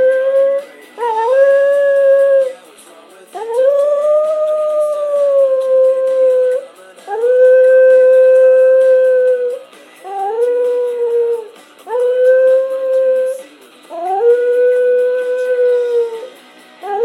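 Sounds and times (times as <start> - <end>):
dog howling: 0.0 - 2.6, 3.4 - 17.0
music: 0.0 - 17.0.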